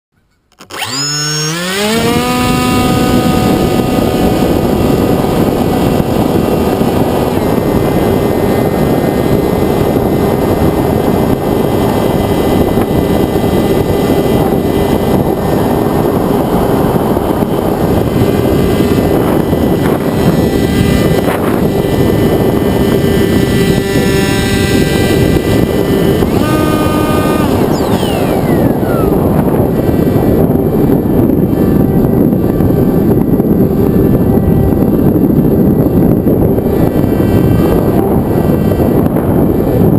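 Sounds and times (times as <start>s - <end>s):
electric motor propeller whine: 0.5s - 39.9s
wind rush: 0.8s - 39.9s.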